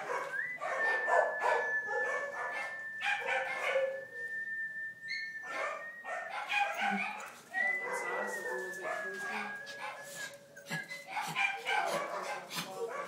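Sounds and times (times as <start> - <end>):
puppies barking and yipping: 0.0 - 4.2, 5.1 - 13.0.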